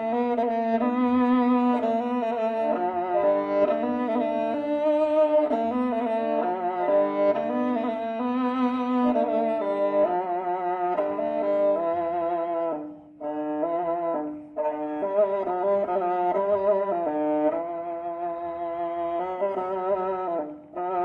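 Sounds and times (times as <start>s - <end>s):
bowed fiddle melody: 0.0s - 21.0s.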